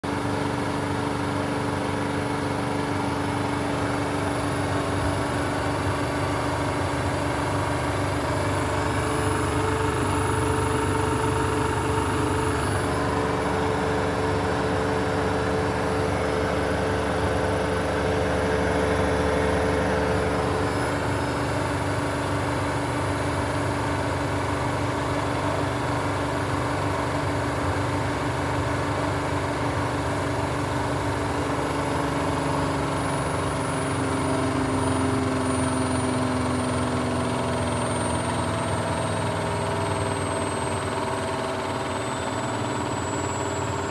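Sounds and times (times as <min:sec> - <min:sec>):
washing machine spinning whine: 0:00.0 - 0:43.9.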